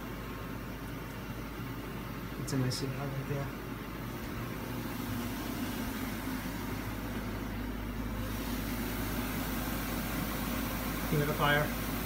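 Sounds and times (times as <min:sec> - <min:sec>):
humidifier motor hum and hiss: 0:00.0 - 0:12.0.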